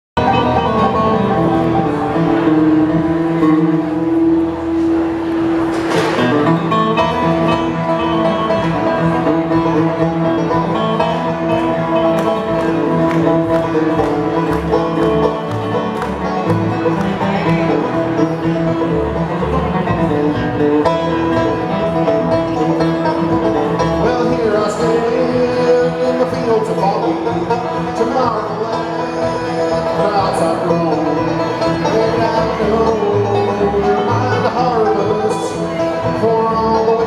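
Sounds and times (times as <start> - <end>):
bluegrass band playing: 0.2 - 37.0.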